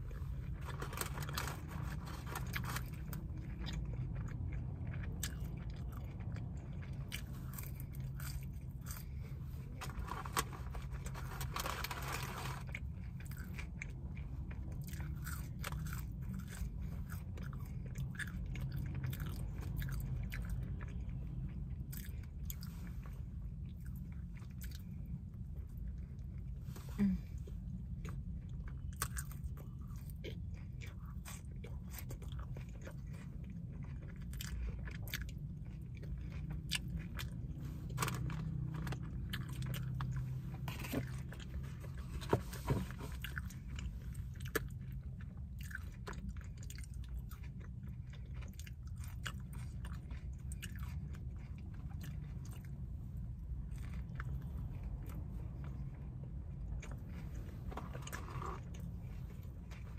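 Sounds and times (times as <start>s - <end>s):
person chewing burger: 0.0s - 59.9s
steady low hum: 0.0s - 59.9s.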